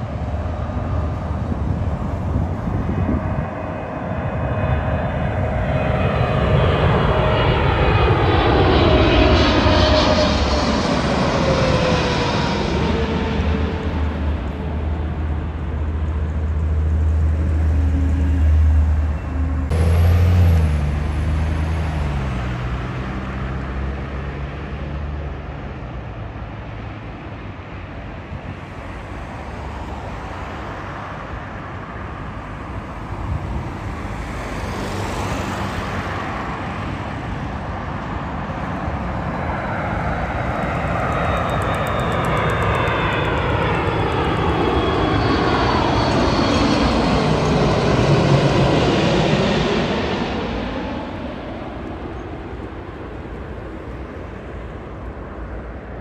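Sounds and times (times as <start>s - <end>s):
jet engine low rumble: 0.0s - 56.0s
jet engine whine: 0.0s - 56.0s.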